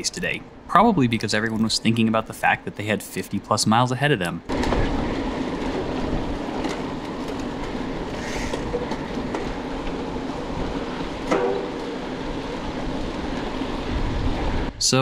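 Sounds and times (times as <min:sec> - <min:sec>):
bike tyres and drivetrain rattling: 0:00.8 - 0:14.7.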